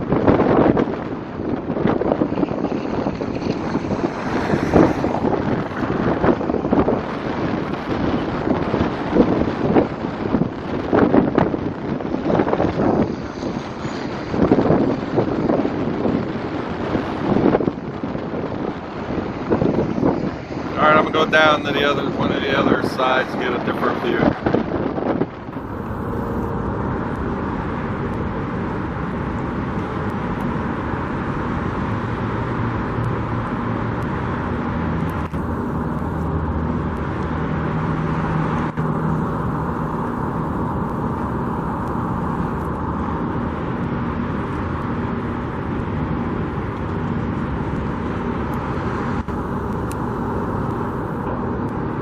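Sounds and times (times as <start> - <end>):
car engine: 0.0 - 52.0
road noise: 0.0 - 52.0.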